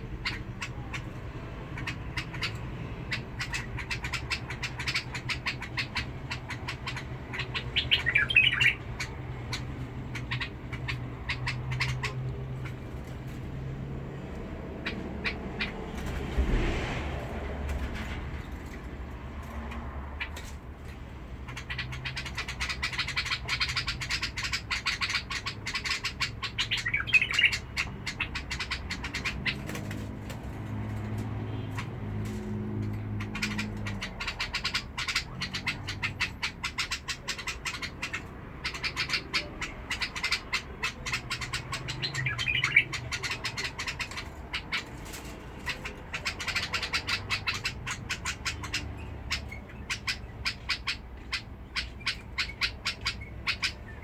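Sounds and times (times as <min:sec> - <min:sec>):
bulbul harsh chattering song: 0:00.0 - 0:16.0, 0:19.0 - 0:30.0, 0:32.8 - 0:54.0.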